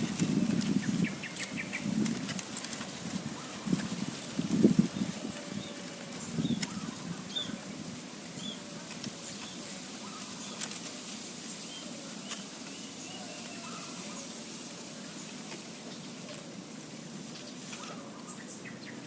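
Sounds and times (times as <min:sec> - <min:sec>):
dove cooing: 0:00.0 - 0:18.9
steady background hiss: 0:00.0 - 0:19.0.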